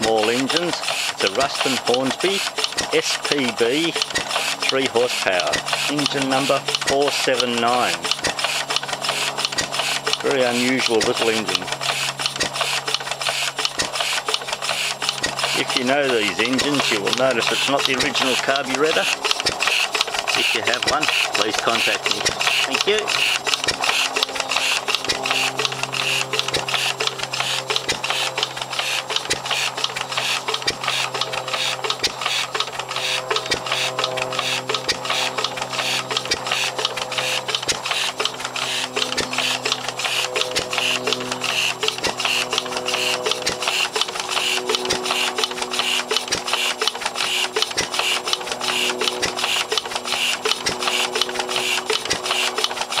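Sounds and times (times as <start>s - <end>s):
stationary engine running: 0.0s - 53.0s.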